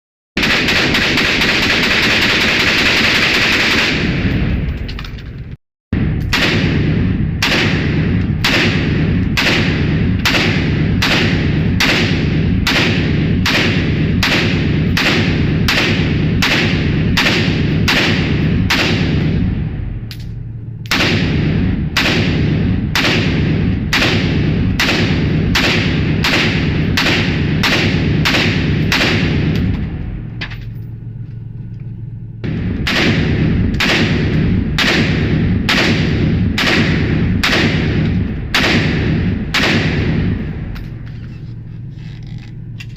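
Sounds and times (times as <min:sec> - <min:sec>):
rifle shots: 0:00.4 - 0:05.4, 0:06.0 - 0:31.2, 0:32.4 - 0:42.5.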